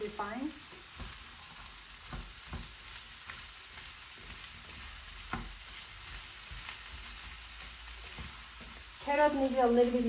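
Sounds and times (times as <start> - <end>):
food sizzling in a frying pan: 0.0 - 10.0
spatula scraping a pan: 0.6 - 9.1.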